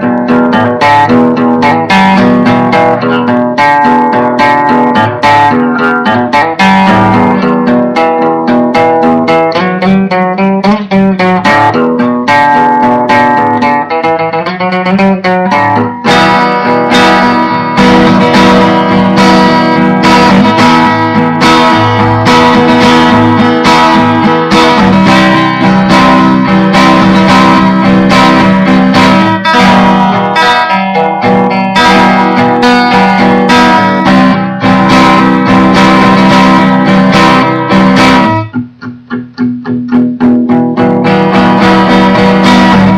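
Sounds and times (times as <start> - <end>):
acoustic guitar playing: 0.0 - 42.9.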